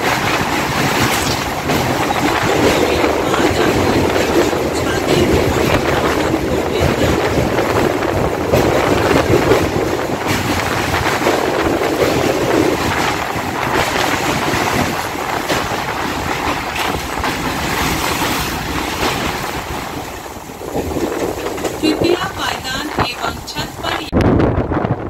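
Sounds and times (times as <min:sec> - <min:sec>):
train wheels rumbling and clattering: 0:00.0 - 0:25.0
wind rushing in: 0:00.0 - 0:25.0.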